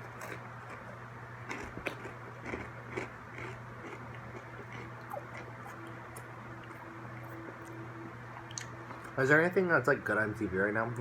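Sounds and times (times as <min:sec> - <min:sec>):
chewing crunchy pretzels: 0:00.0 - 0:09.2
low steady hum: 0:00.0 - 0:11.0.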